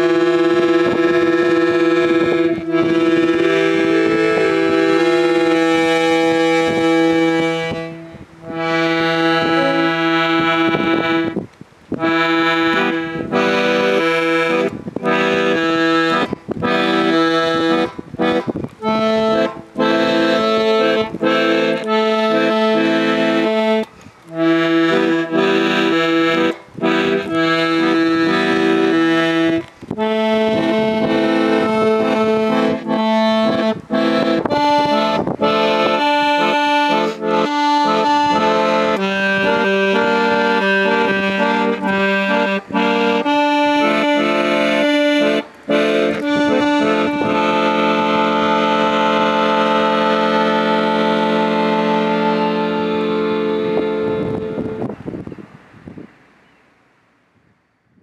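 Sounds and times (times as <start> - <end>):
accordion playing a tune: 0.0 - 55.3.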